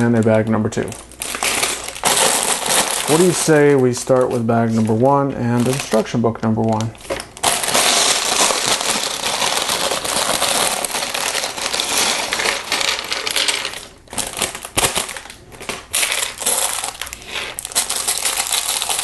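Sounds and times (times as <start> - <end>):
plastic bag crinkling: 0.0 - 19.0
plastic pieces clattering: 0.0 - 19.0.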